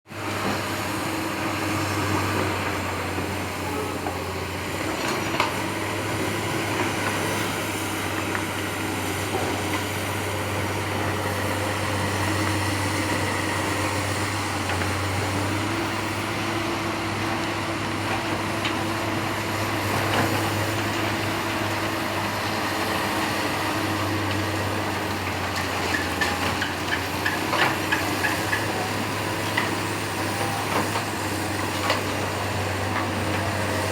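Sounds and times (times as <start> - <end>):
heavy machinery humming: 0.1 - 33.9.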